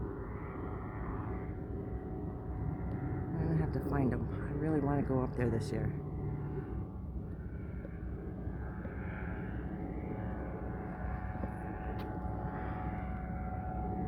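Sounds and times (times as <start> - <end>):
propeller airplane engine drone: 0.0 - 14.0.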